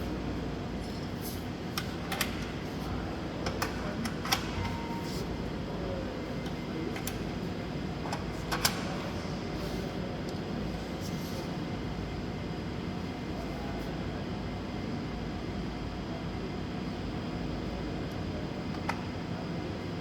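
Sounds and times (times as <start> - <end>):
workshop machinery humming: 0.0 - 20.0.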